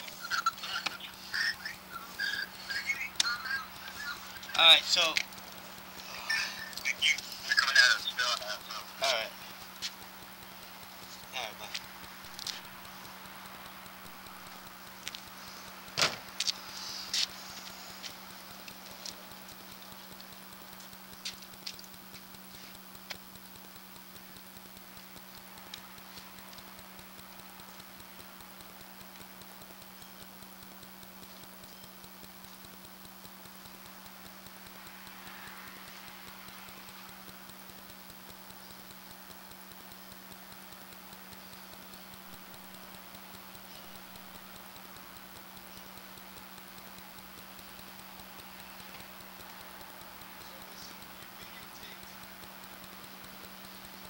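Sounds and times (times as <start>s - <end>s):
faint clicks: 0.0s - 54.0s
faint hiss: 0.0s - 54.0s
low electrical hum: 0.0s - 54.0s.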